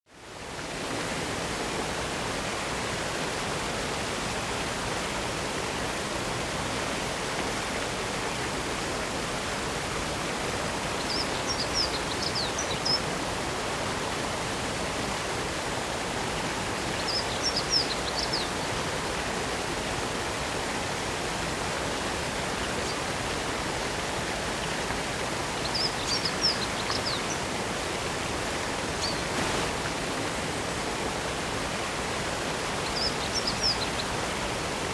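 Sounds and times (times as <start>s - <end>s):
waterfall rushing over rock: 0.2s - 34.9s.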